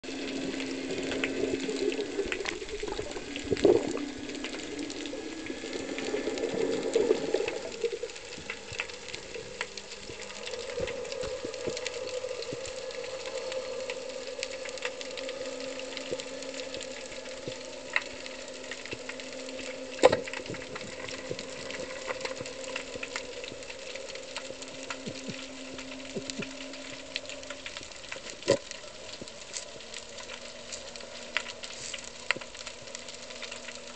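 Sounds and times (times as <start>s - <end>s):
faint steady hum: 0.0s - 33.9s
underwater crackling clicks: 0.1s - 33.9s.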